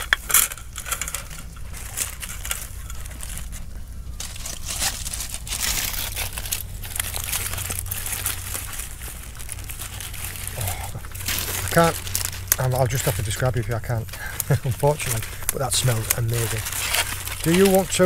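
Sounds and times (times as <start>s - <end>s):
foil and paper crinkling: 0.0s - 18.0s.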